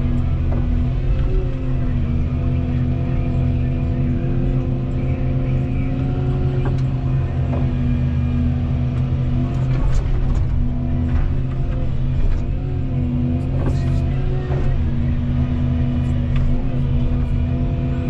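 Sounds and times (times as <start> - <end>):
excavator diesel engine running: 0.0 - 18.0
hydraulics working: 0.0 - 18.0.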